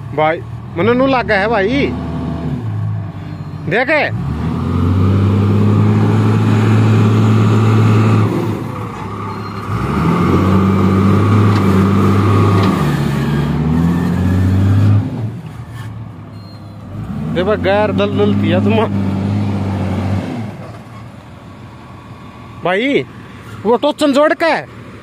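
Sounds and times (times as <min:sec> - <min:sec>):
heavy diesel machinery revving: 0:00.0 - 0:16.2, 0:16.8 - 0:21.3.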